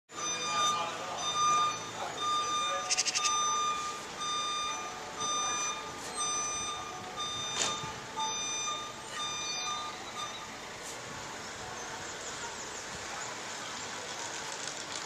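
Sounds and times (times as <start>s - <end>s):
forklift warning beeps: 0.1s - 13.2s.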